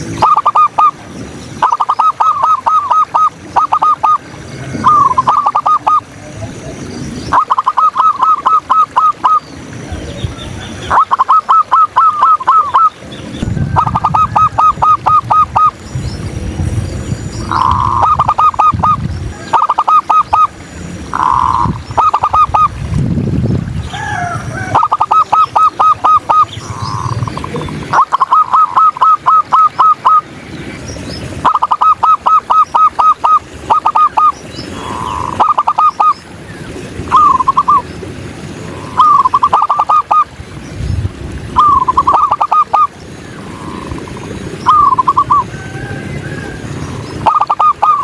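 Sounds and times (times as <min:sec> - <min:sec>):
doves cooing: 0:00.0 - 0:15.8, 0:17.4 - 0:22.9, 0:23.8 - 0:30.3, 0:31.3 - 0:40.6, 0:41.4 - 0:48.0.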